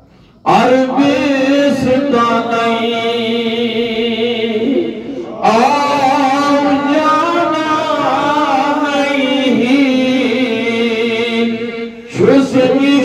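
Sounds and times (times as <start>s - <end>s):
man chanting: 0.4s - 13.0s.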